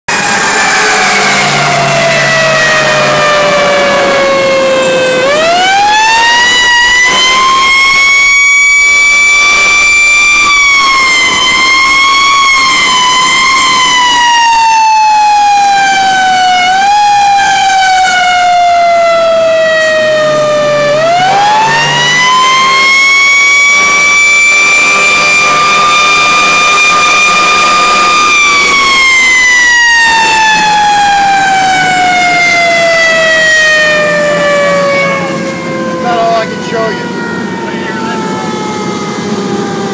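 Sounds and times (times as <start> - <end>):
fire engine siren: 0.0 - 39.9.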